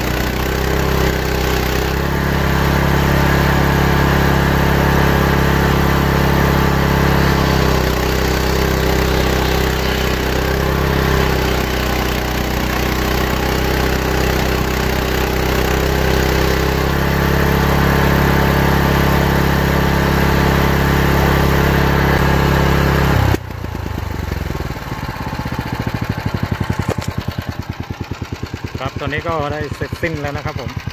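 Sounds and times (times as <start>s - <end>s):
circular saw ripping wood: 0.0s - 30.9s
small engine running: 0.0s - 30.9s.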